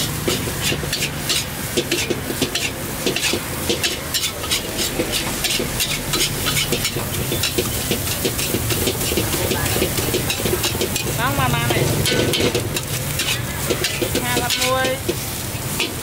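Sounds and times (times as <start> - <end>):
frying sizzle: 0.0 - 16.0
metal spatula scraping a wok: 0.0 - 16.0.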